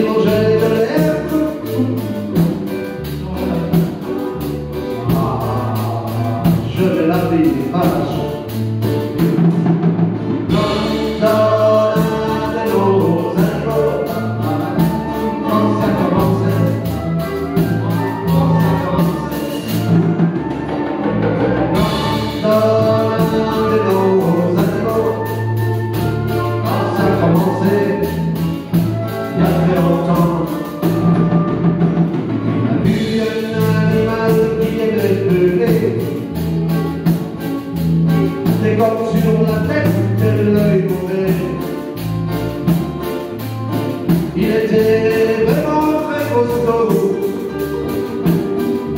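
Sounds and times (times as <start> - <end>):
acoustic guitars strumming: 0.0 - 48.9
bass line: 0.0 - 48.9
flute melody: 0.0 - 48.9.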